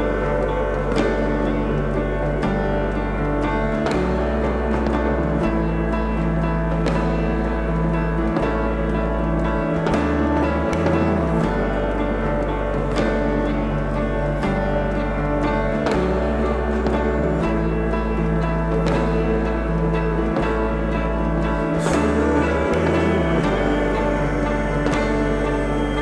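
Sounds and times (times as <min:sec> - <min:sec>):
background music with held notes: 0:00.0 - 0:26.0
low bass line: 0:00.0 - 0:26.0.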